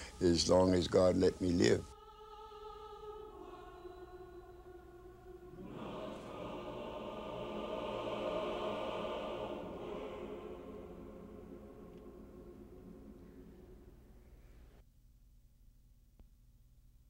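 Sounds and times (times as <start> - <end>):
choir holding a chord: 0.0 - 14.4.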